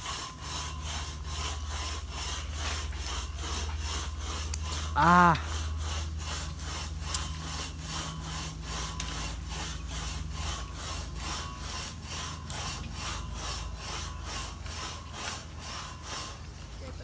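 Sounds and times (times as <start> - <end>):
rhythmic rasping strokes: 0.0 - 17.0.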